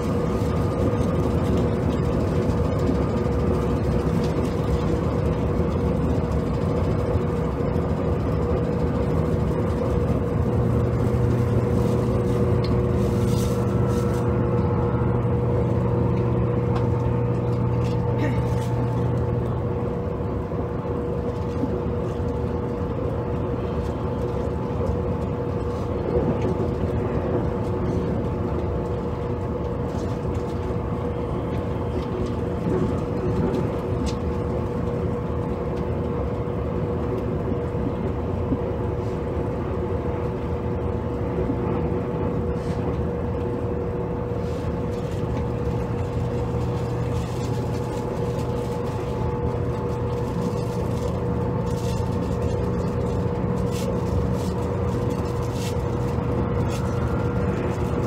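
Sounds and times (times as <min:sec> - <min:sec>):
rumble of wheels on rail: 0:00.0 - 0:58.0
steady train hum: 0:00.0 - 0:58.0.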